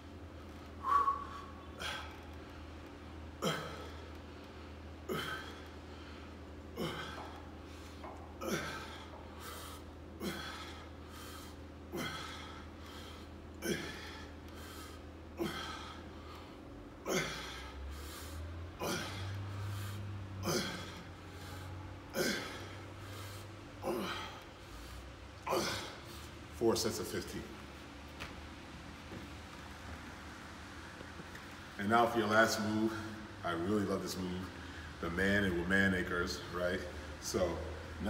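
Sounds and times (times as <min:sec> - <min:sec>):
low hum: 0:00.0 - 0:31.9.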